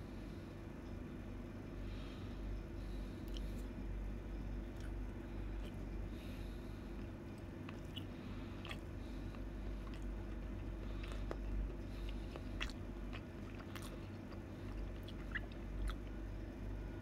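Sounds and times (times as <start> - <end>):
steady low hum: 0.0 - 17.0
person chewing soft food: 1.9 - 17.0.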